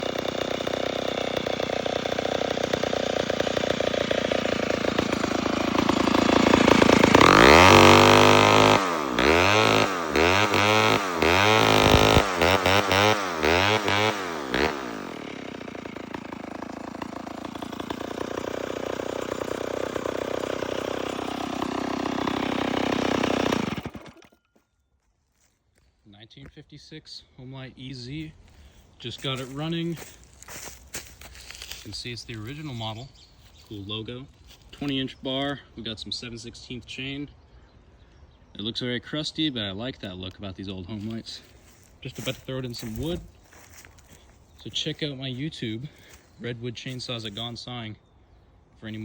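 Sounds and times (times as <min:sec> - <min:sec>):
chainsaw engine idling and revving: 0:00.0 - 0:24.5, 0:28.1 - 0:37.0, 0:39.9 - 0:47.8, 0:48.6 - 0:49.0.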